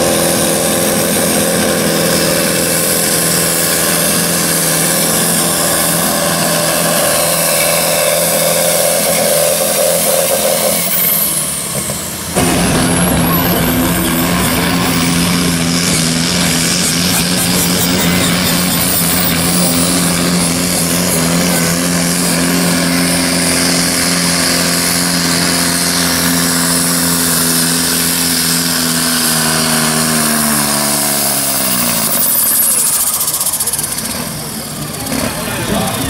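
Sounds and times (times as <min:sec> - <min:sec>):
high rising whine: 0:00.0 - 0:36.0
tractor diesel engines under load: 0:00.0 - 0:36.0.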